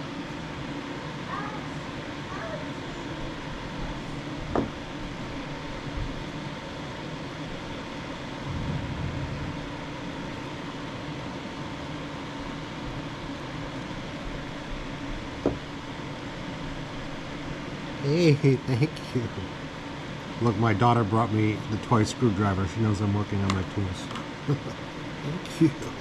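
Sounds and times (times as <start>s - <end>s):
faint steady whine: 0.0s - 26.0s
fan-like hum: 0.0s - 26.0s.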